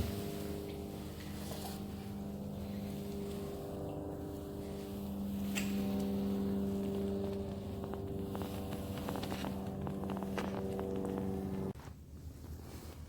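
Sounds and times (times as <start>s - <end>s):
boat motor running: 0.0s - 11.8s.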